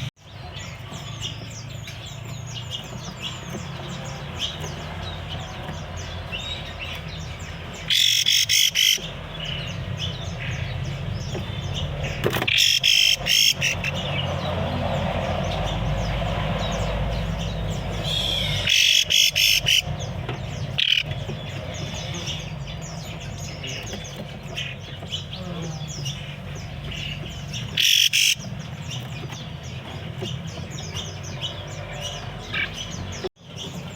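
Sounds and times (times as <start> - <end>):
bird bursts of high song: 0.0 - 33.9
songbirds chirping and twittering: 0.0 - 33.9.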